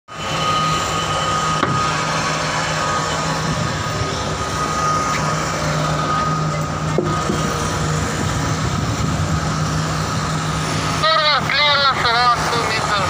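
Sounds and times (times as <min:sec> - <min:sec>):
high whine: 0:00.1 - 0:13.0
ship machinery drone: 0:00.1 - 0:13.0.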